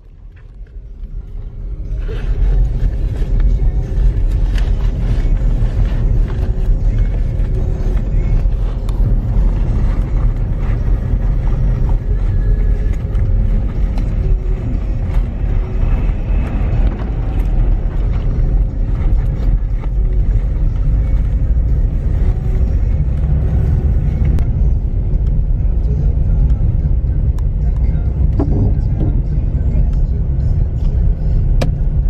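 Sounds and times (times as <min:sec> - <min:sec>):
car cabin rumble: 0:00.0 - 0:32.0.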